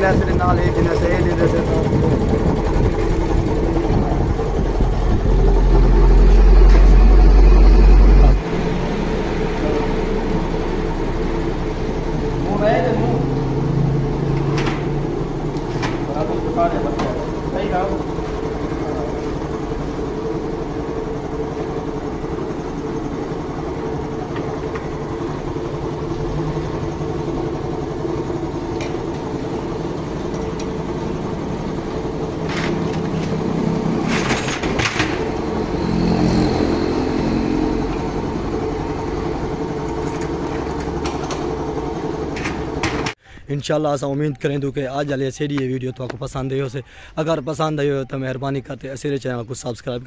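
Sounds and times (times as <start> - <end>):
motorcycle engine running: 0.0 - 43.2.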